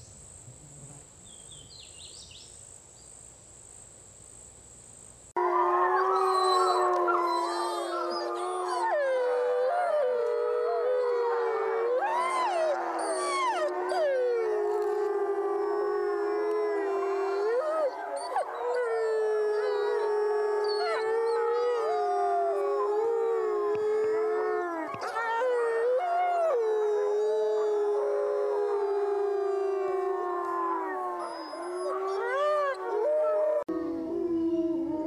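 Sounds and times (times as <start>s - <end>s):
wolves howling in chorus: 5.4s - 35.0s.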